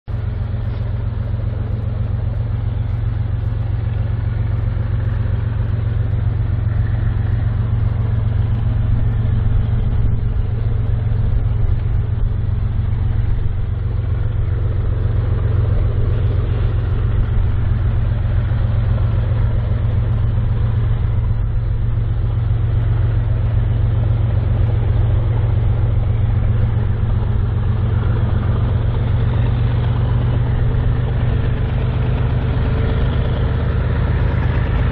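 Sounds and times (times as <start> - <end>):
diesel locomotive engines humming: 0.0 - 34.9.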